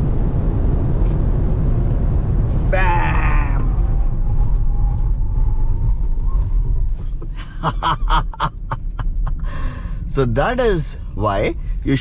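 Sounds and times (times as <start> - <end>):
faint tyre whine: 0.0 - 12.0
road and tyre rumble: 0.0 - 12.0.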